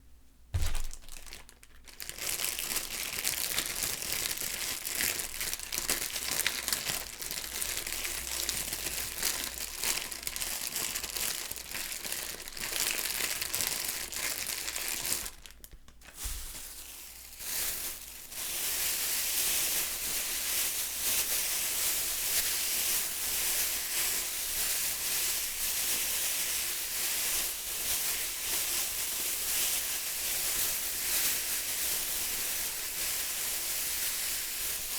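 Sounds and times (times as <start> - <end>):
plastic bag crinkling: 0.5 - 34.9.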